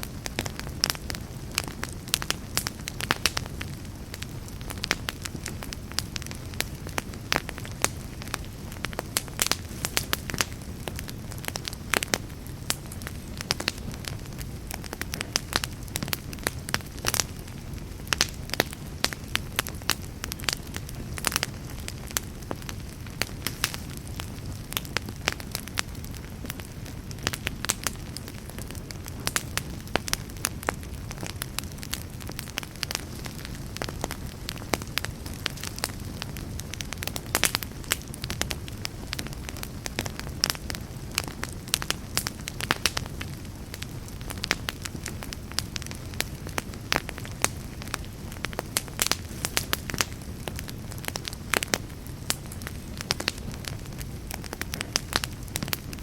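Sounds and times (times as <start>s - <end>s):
fireplace fire crackling and popping: 0.0s - 56.0s
low rumble of burning: 0.0s - 56.0s.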